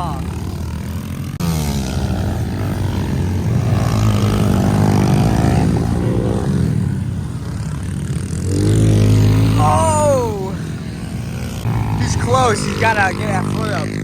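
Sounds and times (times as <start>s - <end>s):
pit bike engine racing: 0.0s - 14.0s.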